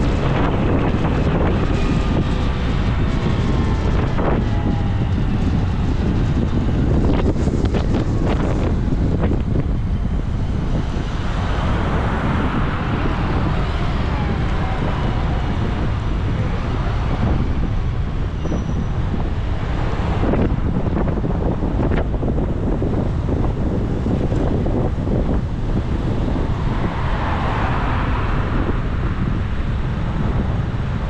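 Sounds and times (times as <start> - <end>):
road traffic noise: 0.0 - 31.0
wind buffeting microphone: 0.0 - 31.0.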